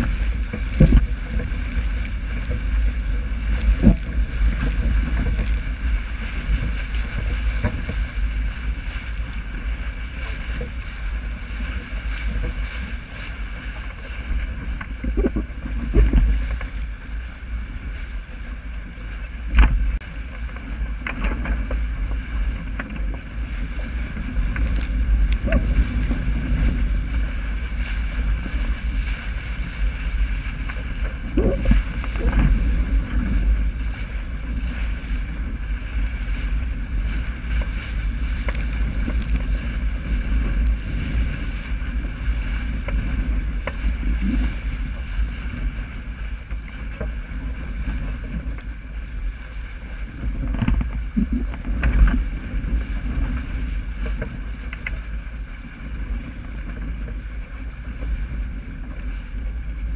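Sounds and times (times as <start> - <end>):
water rushing along hull: 0.0 - 59.9
wind buffeting microphone: 0.0 - 59.9.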